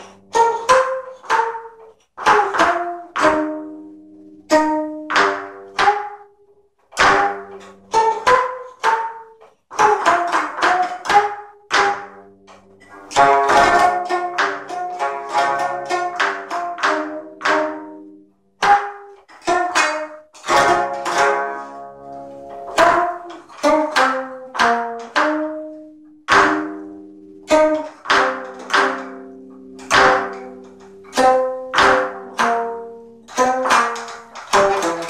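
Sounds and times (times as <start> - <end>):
zither strings struck: 0.0 - 6.3, 7.0 - 35.0.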